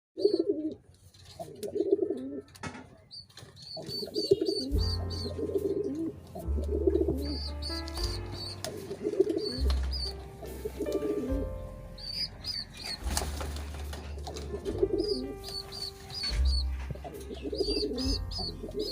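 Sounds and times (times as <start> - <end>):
pigeons cooing: 0.2 - 0.8, 1.4 - 2.6, 3.5 - 18.9.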